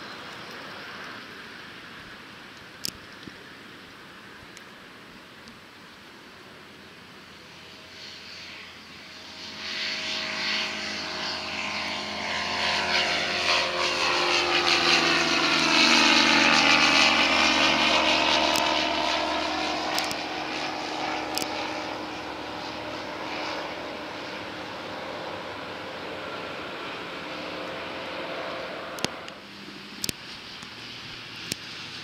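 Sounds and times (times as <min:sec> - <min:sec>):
light aircraft engine droning: 0:00.0 - 0:32.0.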